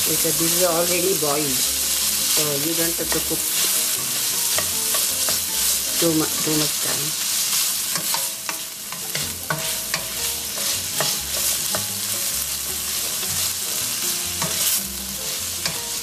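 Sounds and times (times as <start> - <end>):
beans sizzling in a skillet: 0.0 - 16.0
spatula scraping a pan: 0.1 - 16.0.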